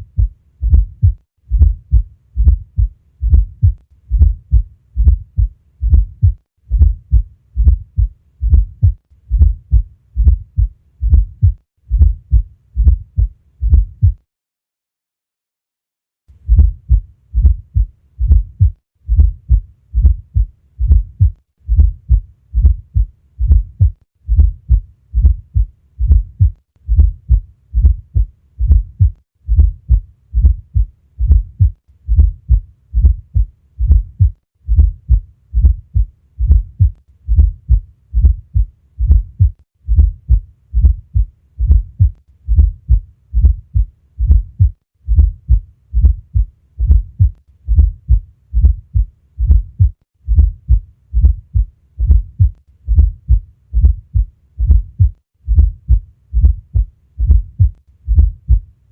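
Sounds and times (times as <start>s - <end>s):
heartbeat: 0.0s - 14.3s, 16.4s - 58.7s.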